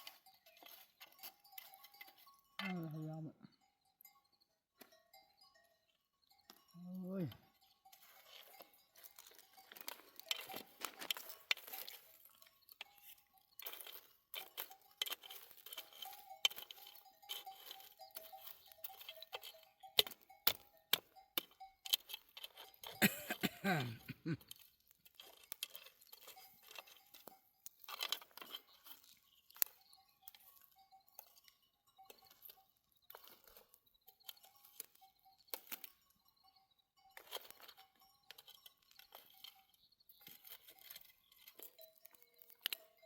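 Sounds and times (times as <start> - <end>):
livestock neck bells clinking: 0.0 - 43.0.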